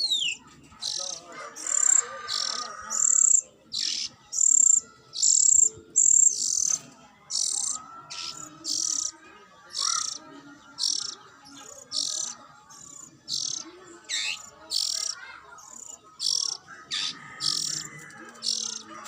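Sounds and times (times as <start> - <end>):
birds chirping high: 0.0 - 19.0.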